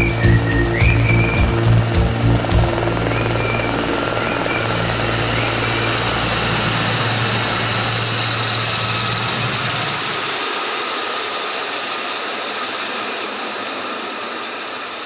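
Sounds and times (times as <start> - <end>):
helicopter low hum: 0.0 - 15.0
high turbine whine: 0.0 - 15.0.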